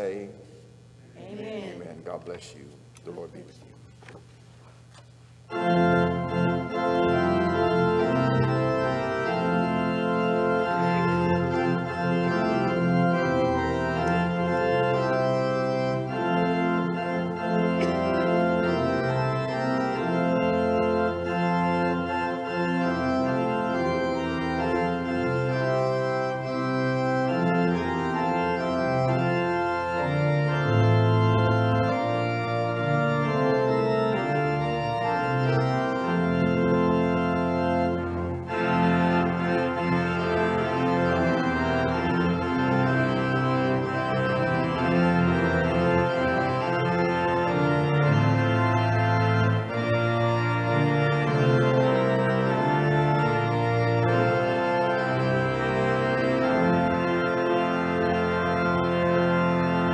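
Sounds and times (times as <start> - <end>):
pipe organ playing chords: 0.0 - 4.2, 5.4 - 59.9.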